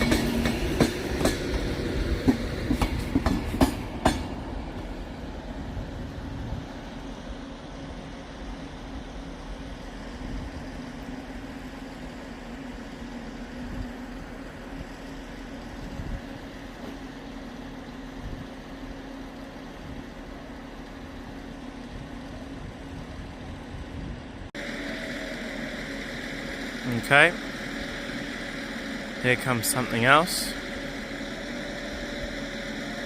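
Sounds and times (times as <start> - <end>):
train equipment humming: 0.0 - 33.0.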